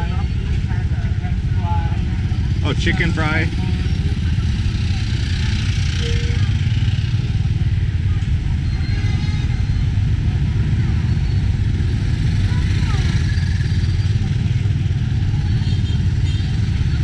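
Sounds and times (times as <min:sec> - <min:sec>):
auto rickshaw engine running: 0:00.0 - 0:17.0
road and wind noise: 0:00.0 - 0:17.0.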